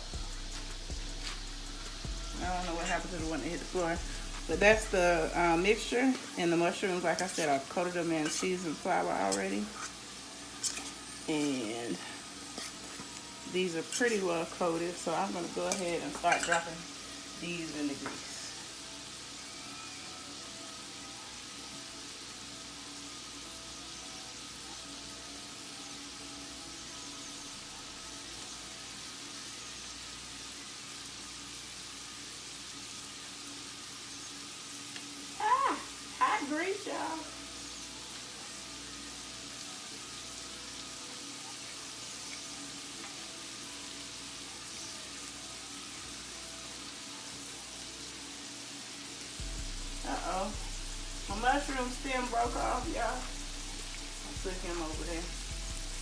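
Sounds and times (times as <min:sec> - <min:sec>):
grease sizzling in a pan: 0:00.0 - 0:56.0.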